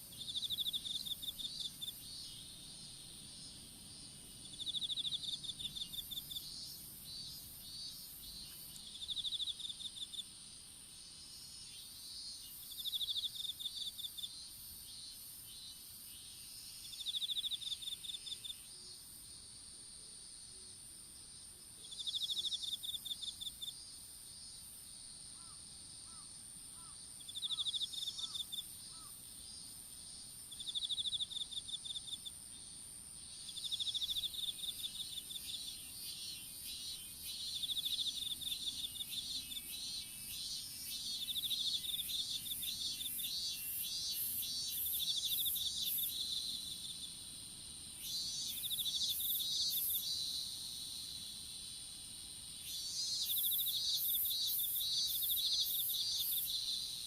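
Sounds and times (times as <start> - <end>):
insects high-pitched trill: 0.0 - 19.4, 21.8 - 24.7, 25.3 - 57.0.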